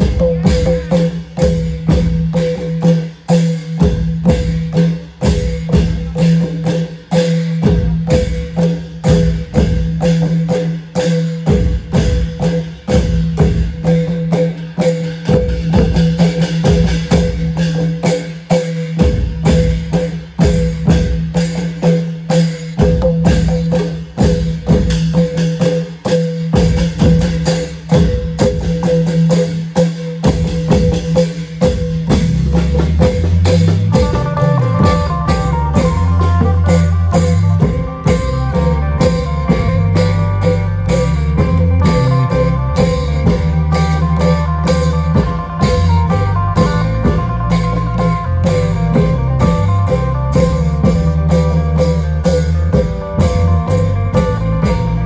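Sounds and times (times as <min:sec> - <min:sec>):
bright clicking percussion: 0:00.0 - 0:55.0
long drum ensemble playing: 0:00.0 - 0:55.0.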